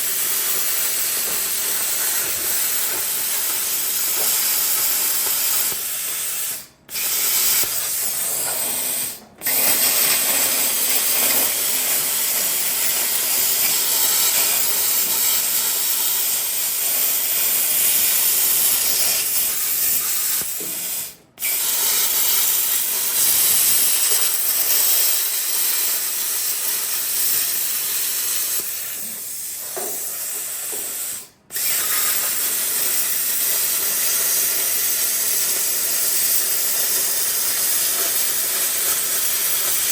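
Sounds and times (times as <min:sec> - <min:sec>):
hiss of cutting sheet steel: 0:00.0 - 0:39.9.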